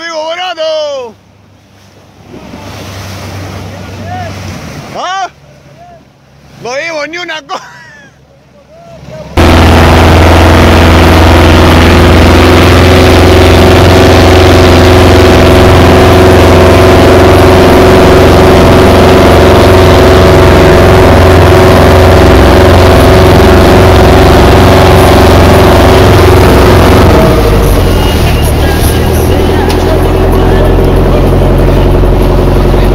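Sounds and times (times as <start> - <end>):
boat engine running: 1.1 - 32.9.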